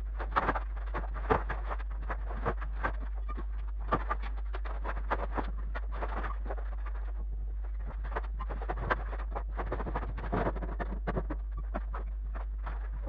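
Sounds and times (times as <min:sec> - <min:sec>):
steady low hum: 0:00.0 - 0:13.0
irregular knocks and clicks: 0:00.1 - 0:13.0.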